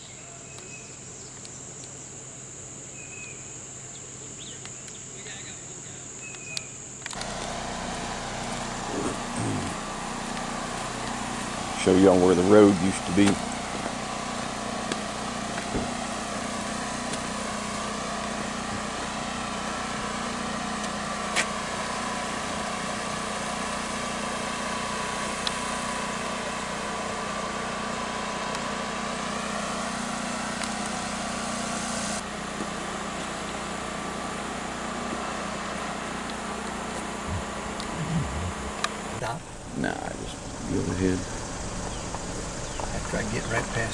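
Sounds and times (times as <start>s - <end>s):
road hiss: 4.2s - 43.9s
vehicle engine low hum: 5.9s - 43.9s.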